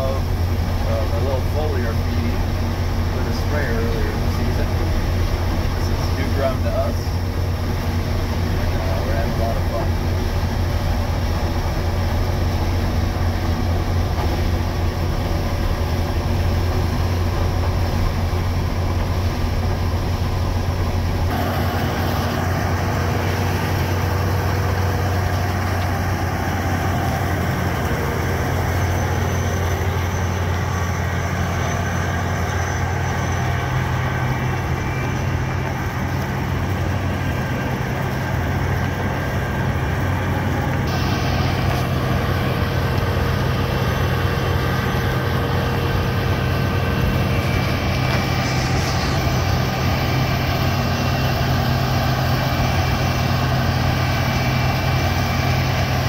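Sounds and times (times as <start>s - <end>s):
combine diesel hum: 0.0s - 56.0s.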